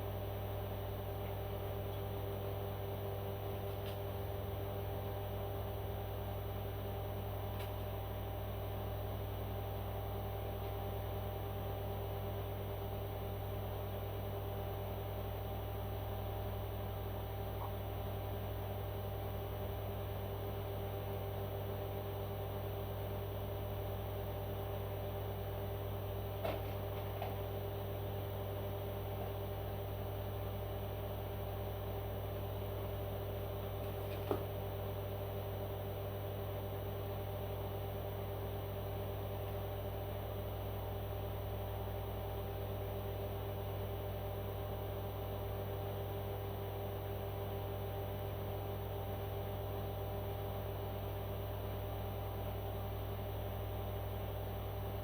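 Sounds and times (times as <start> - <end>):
electrical appliance hum: 0.0 - 55.0.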